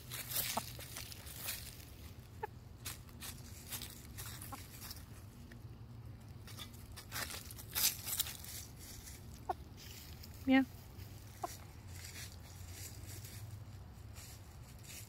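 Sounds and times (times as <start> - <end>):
hen scratching dry leaves: 0.0 - 5.6, 6.4 - 15.0.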